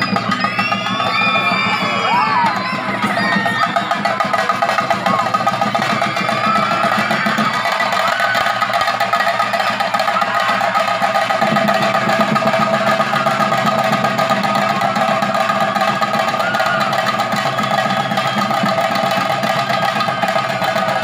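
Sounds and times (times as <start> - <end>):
drums in fast roll: 0.0 - 21.0.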